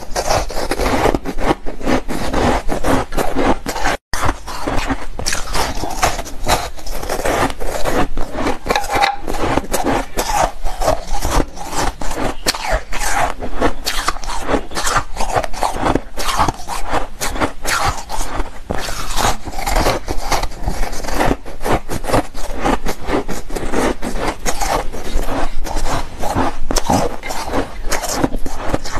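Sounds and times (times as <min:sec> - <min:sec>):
ice being crunched: 0:00.0 - 0:28.9.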